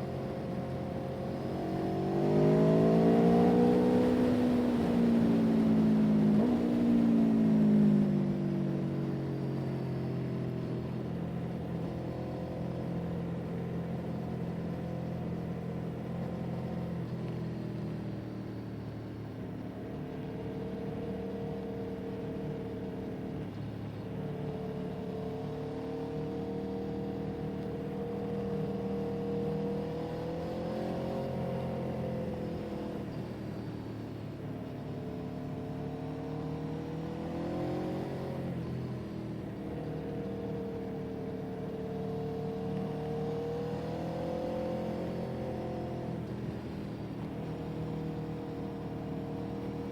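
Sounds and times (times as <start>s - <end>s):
vehicle engine running: 0.0s - 49.9s.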